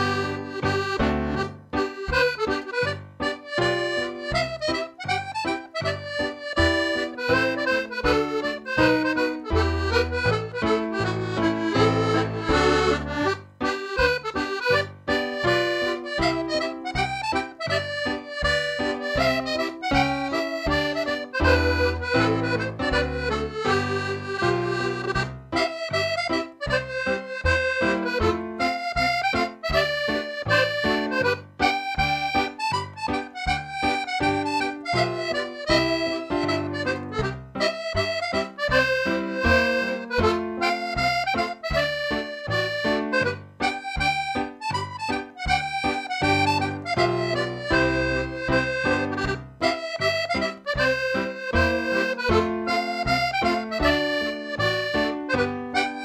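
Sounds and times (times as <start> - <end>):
accordion playing a polka: 0.0 - 56.0.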